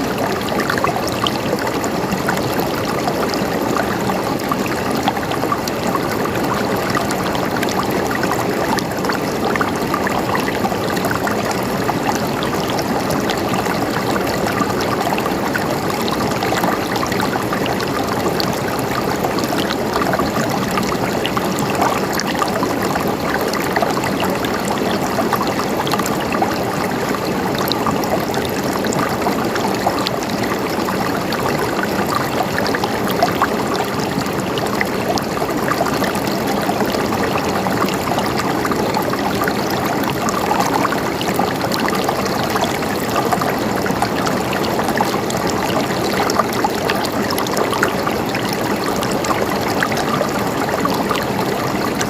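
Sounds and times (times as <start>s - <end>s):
river water rushing over rocks: 0.0s - 52.0s.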